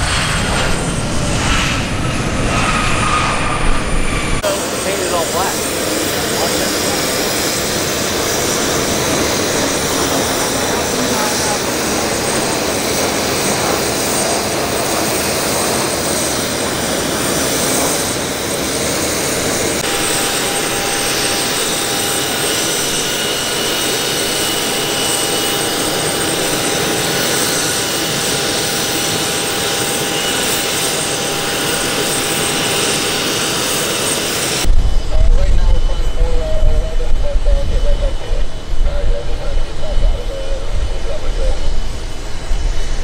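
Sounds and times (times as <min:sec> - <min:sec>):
jet engines idling with high whine: 0:00.0 - 0:43.0
jet engines passing overhead: 0:00.0 - 0:43.0.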